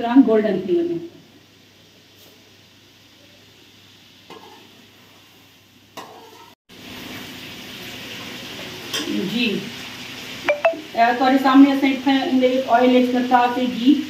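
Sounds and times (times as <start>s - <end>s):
chicken sizzling in a pan: 0.4s - 14.0s.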